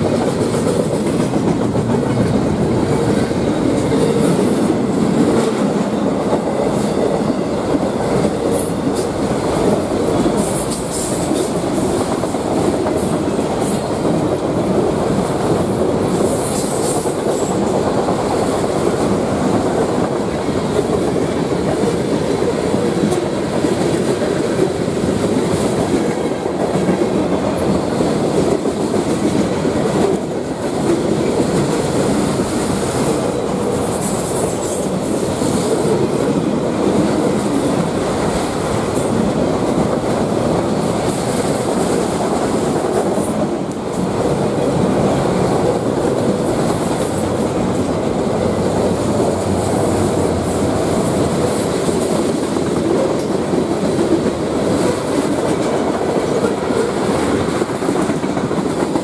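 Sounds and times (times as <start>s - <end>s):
clickety-clack over rail joints: 0.0s - 59.0s
train wheels rumbling on rail: 0.0s - 59.0s.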